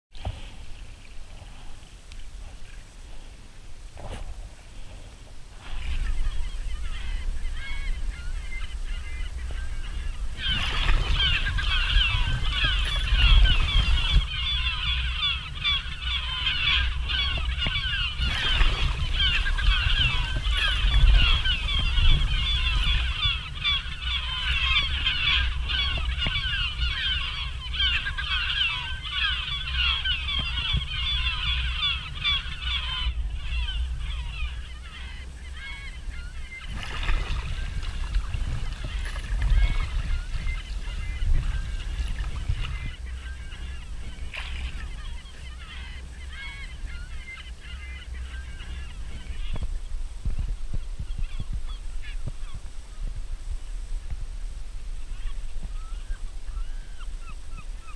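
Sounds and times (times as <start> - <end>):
wind rumble on microphone: 0.1 - 57.9
gulls calling: 4.0 - 57.9.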